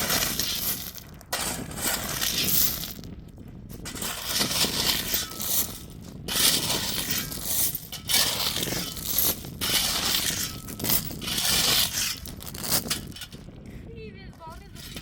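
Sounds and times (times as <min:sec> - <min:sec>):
gravel crunching and clinking: 0:00.0 - 0:15.0.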